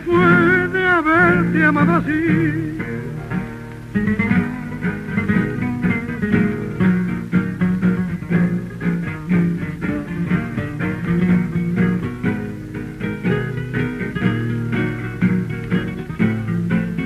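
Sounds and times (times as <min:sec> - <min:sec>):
old record crackle: 0:00.0 - 0:17.0
two guitars playing tango: 0:00.0 - 0:17.0.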